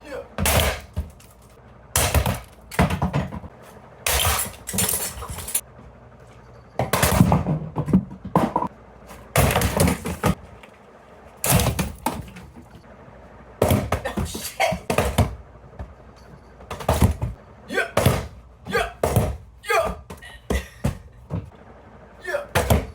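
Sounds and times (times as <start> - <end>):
objects smashing against fan blades: 0.3 - 5.8, 6.8 - 10.6, 11.3 - 22.9.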